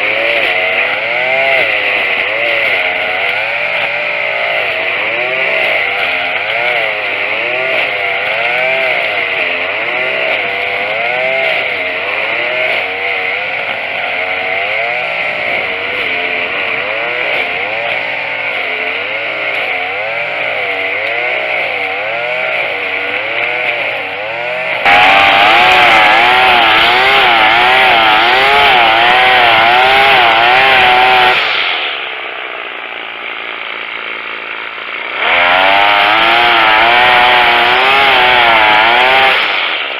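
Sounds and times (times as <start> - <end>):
string trimmer cutting grass: 0.0 - 39.9.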